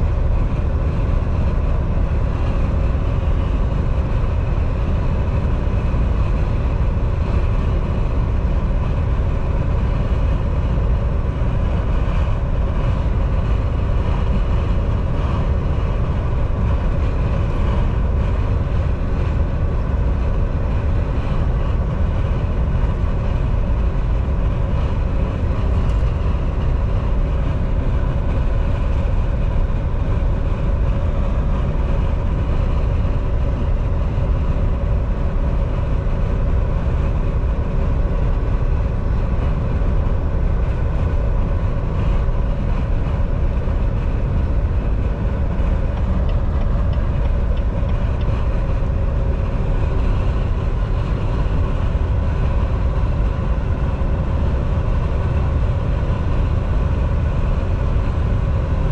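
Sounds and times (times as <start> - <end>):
tyre and road noise: 0.0 - 58.8
diesel engine drone: 0.0 - 58.9.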